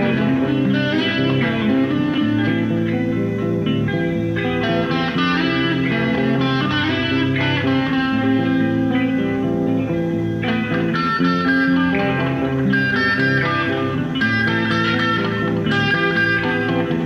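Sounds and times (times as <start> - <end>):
electric guitar held notes: 0.0 - 17.0.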